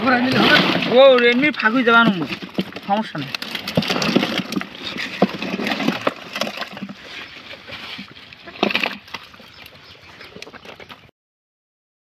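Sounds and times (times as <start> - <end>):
fish flapping in plastic drum: 0.1 - 11.1.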